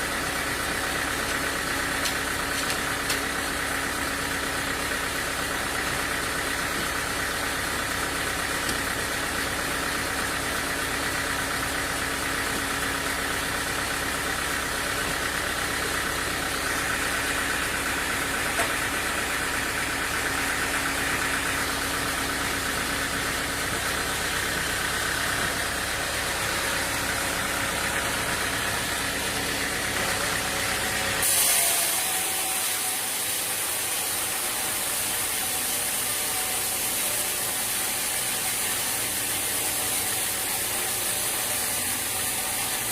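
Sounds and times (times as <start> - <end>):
engine-driven machinery running: 0.0 - 36.3.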